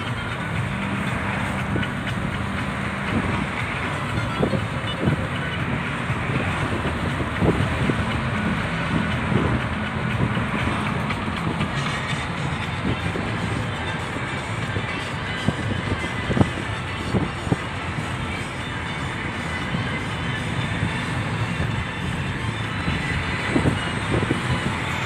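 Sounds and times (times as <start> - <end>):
car tyre and engine rumble: 0.0 - 25.0.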